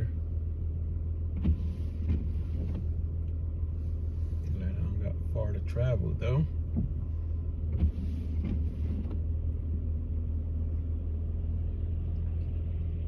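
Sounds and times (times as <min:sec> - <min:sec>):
car engine and tyres rumble: 0:00.0 - 0:13.0.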